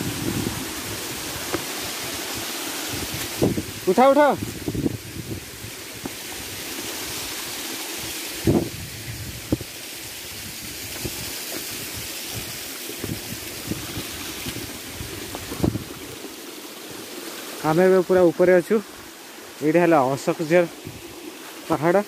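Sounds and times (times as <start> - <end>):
waterfall stream rushing: 0.0 - 22.0.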